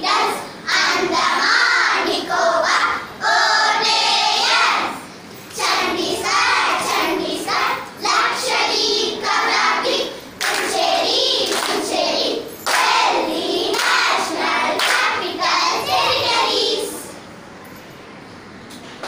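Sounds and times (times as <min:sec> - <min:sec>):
girls singing in unison: 0:00.0 - 0:17.2.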